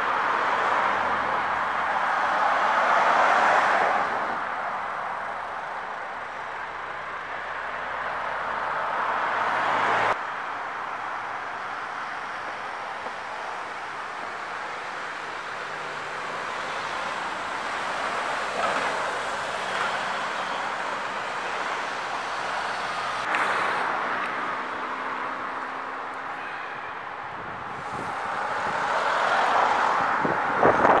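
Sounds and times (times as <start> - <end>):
road traffic hum: 0.0 - 31.0.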